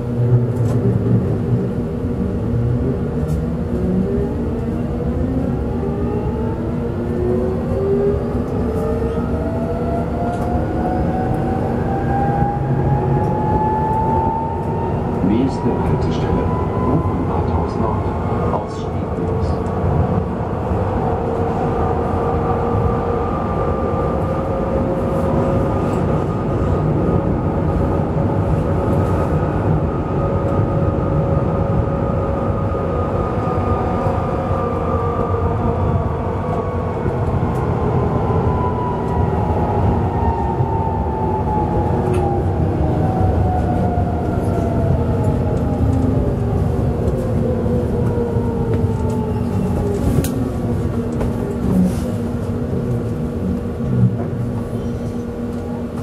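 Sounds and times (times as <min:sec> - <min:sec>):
wheels rumbling on track: 0:00.0 - 0:56.0.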